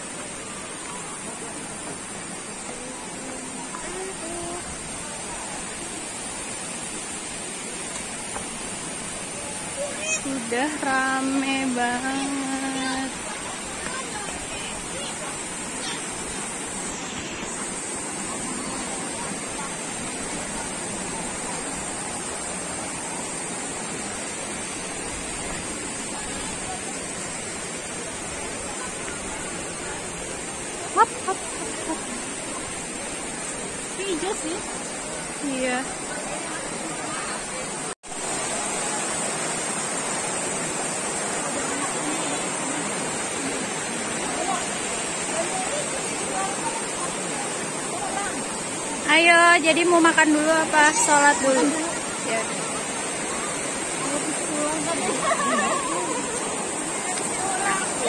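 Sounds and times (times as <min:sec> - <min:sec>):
small waterfall rushing: 0:00.0 - 0:58.0
stream running over rocks: 0:00.0 - 0:58.0.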